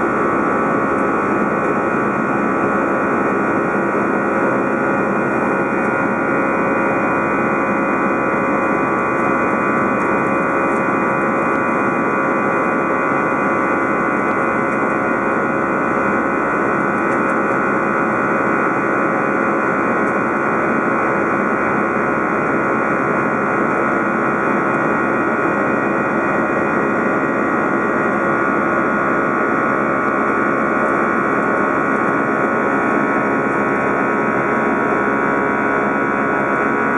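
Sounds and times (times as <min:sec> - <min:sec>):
jet engine cabin noise: 0:00.0 - 0:36.9
steady whining tones: 0:00.0 - 0:36.9.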